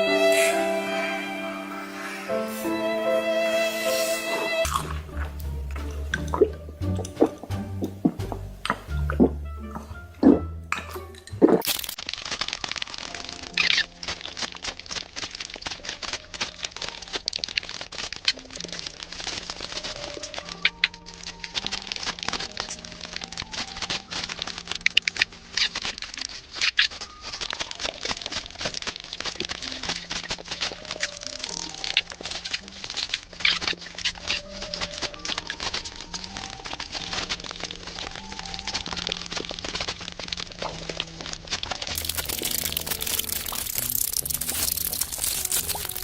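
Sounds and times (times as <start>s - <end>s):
faint background music: 0.0s - 46.0s
crunchy chewing: 4.6s - 46.0s.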